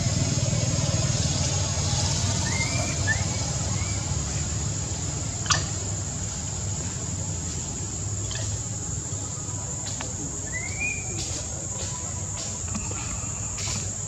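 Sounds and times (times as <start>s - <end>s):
high-pitched insect drone: 0.1s - 14.0s.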